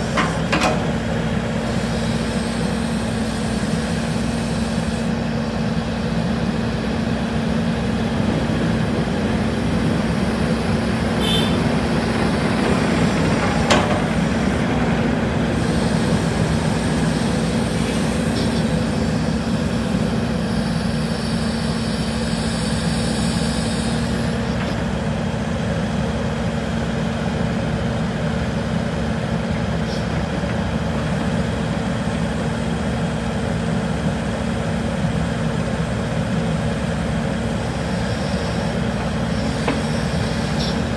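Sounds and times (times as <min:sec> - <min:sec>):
hydraulic whine: 0:00.0 - 0:25.2, 0:28.9 - 0:40.9
excavator diesel engine running: 0:00.0 - 0:40.9.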